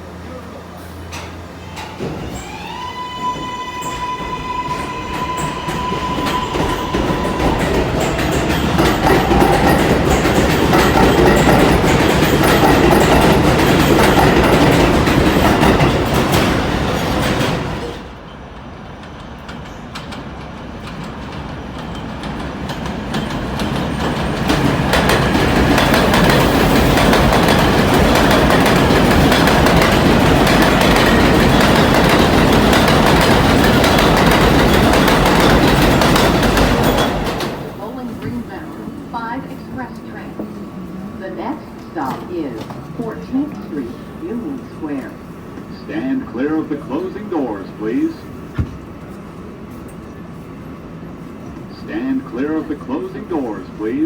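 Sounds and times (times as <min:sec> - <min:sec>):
subway train wheels rumbling on rail: 0:00.0 - 0:54.0.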